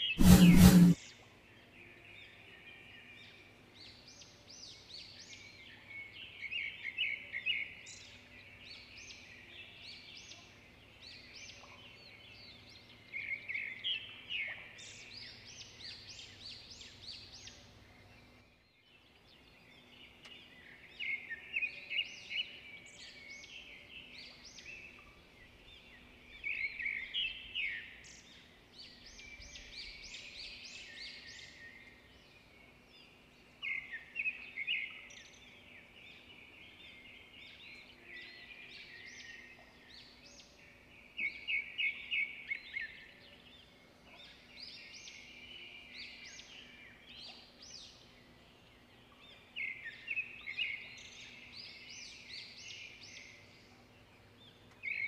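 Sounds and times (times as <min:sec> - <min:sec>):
small songbirds chirping and trilling: 0:00.0 - 0:55.0.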